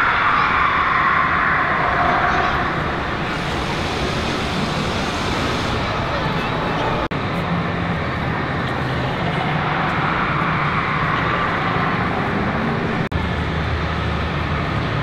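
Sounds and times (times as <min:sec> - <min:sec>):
fairground din: 0:00.0 - 0:15.0
low engine-like hum: 0:00.0 - 0:15.0.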